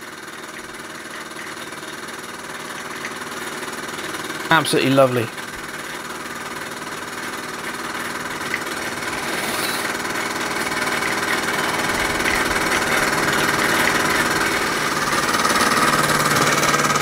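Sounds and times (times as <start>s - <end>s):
model steam engine running: 0.0s - 17.0s.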